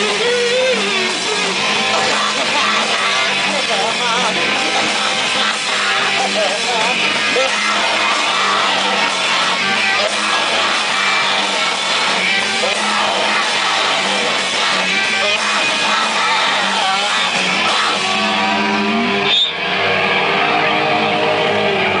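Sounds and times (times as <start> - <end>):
drum kit with cymbals: 0.0 - 19.0
distorted electric guitar: 0.0 - 22.0.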